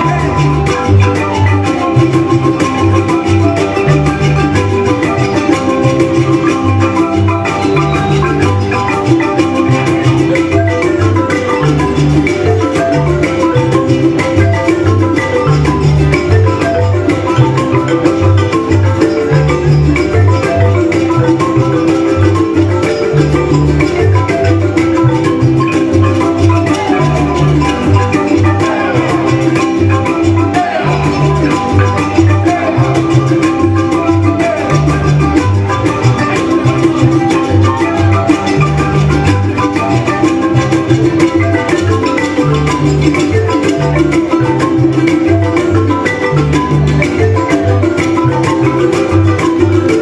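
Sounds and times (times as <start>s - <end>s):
marimba notes: 0.0s - 50.0s.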